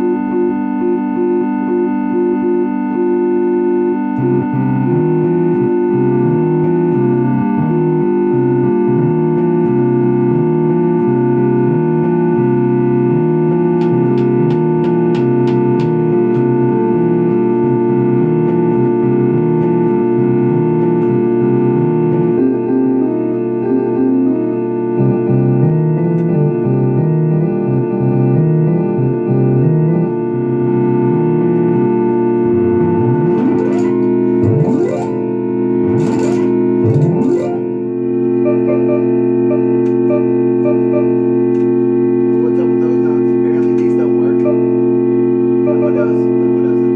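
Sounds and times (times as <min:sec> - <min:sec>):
bass line: 0:00.0 - 0:46.9
electric organ chords: 0:00.0 - 0:46.9.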